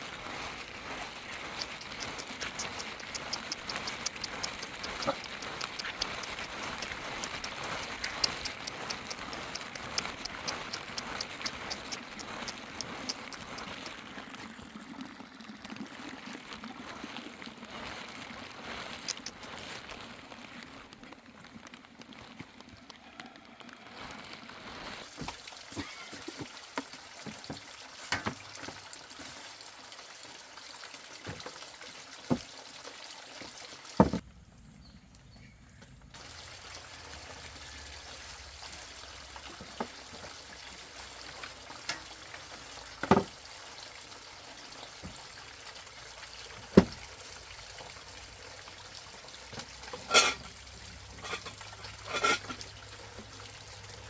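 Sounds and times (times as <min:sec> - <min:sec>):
water pouring and trickling: 0:00.0 - 0:35.4, 0:36.0 - 0:54.0.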